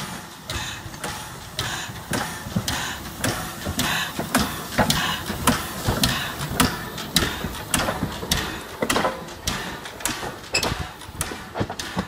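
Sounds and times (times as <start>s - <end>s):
steam locomotive chuffing: 0.0s - 12.0s
wheels clanking: 0.0s - 12.0s.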